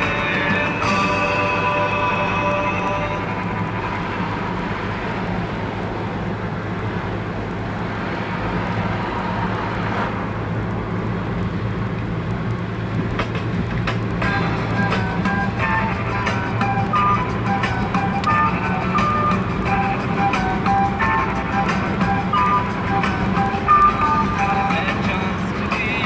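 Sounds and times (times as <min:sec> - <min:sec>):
car engine drone: 0:00.0 - 0:26.0
faint music: 0:00.0 - 0:26.0
tyre and road rumble: 0:00.0 - 0:26.0.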